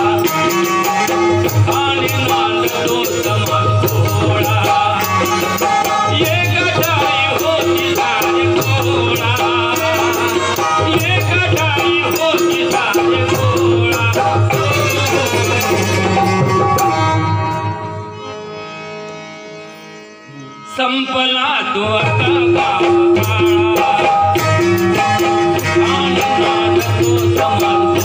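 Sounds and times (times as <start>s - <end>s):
percussion beat: 0.0s - 17.7s, 22.0s - 28.0s
harmonium melody: 0.0s - 28.0s.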